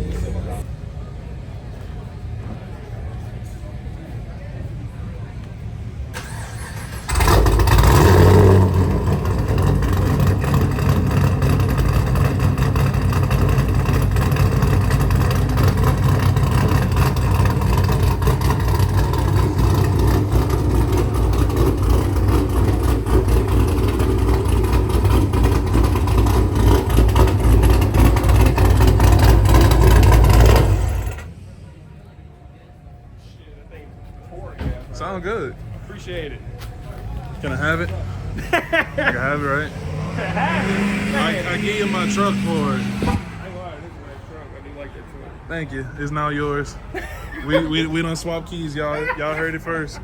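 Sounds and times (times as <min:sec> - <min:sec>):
car engine starting and idling: 0:00.0 - 0:32.5, 0:34.5 - 0:50.0.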